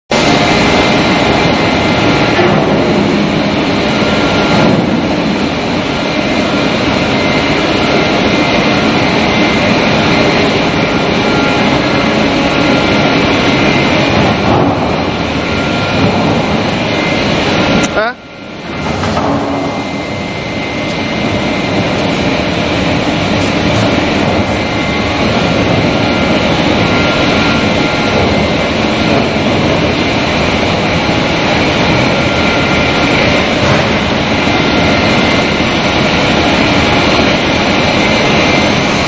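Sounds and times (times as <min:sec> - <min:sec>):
high whining tones: 0:00.1 - 0:39.0.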